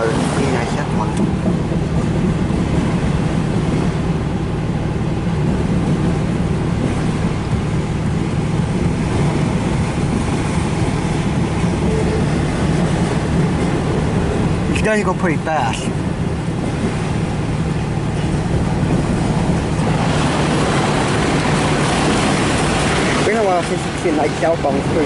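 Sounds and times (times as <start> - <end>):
freight train wheels rumbling on track: 0.0 - 25.0.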